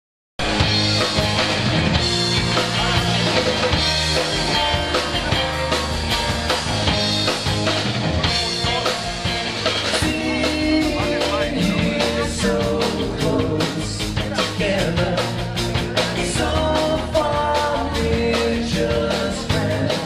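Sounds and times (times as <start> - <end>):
drum kit steady beat: 0.4 - 20.0
electric guitars: 0.4 - 20.0.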